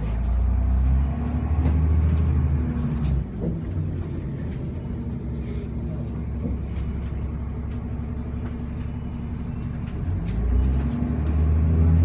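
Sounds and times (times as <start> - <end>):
vehicle engine from inside cabin: 0.0 - 12.0.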